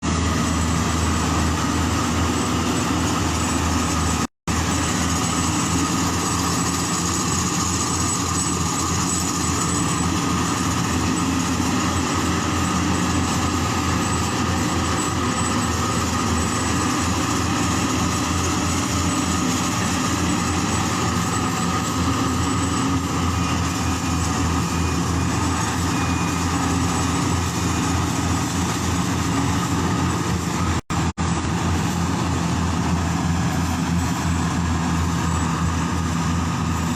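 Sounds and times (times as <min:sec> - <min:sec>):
motor engine droning: 0:00.0 - 0:36.9.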